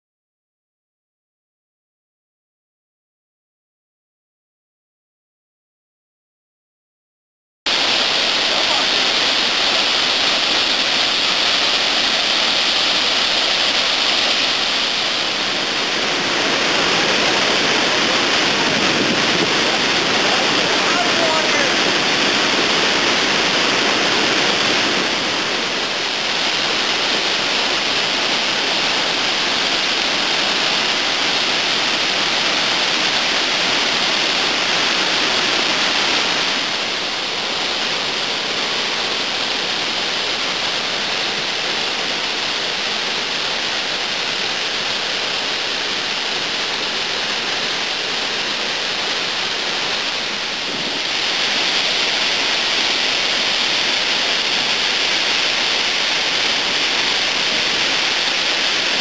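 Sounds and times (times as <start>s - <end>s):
waterfall rushing: 7.7s - 59.0s.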